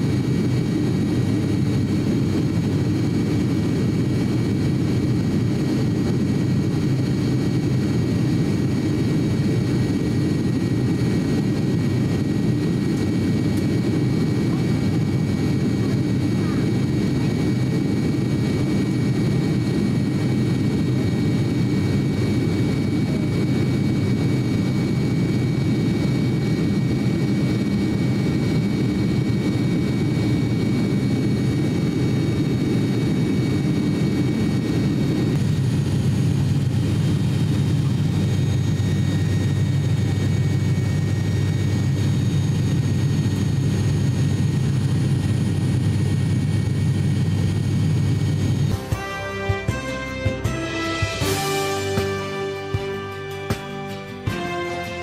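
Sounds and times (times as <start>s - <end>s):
turboprop cabin drone: 0.0s - 55.0s.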